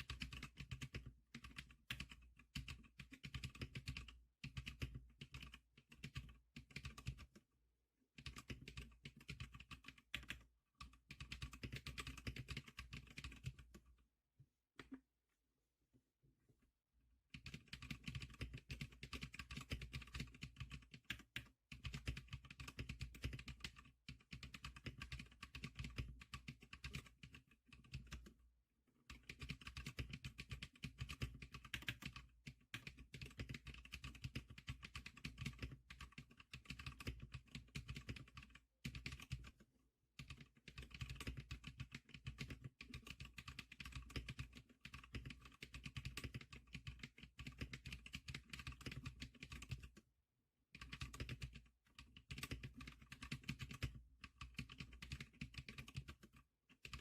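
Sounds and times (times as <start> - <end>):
fast typing on keyboard: 0.0 - 7.4, 8.1 - 13.9, 17.3 - 50.1, 50.7 - 57.0.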